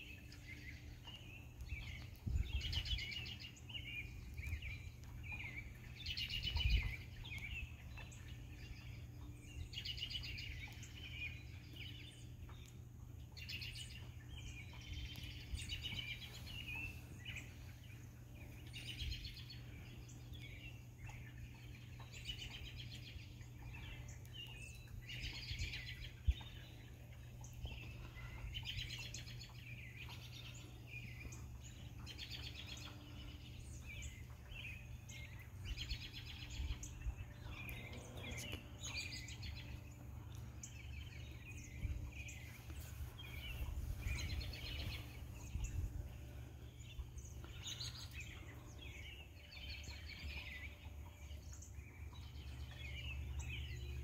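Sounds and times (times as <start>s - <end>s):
low background rumble: 0.0s - 54.0s
songbirds chirping and trilling: 0.0s - 54.0s.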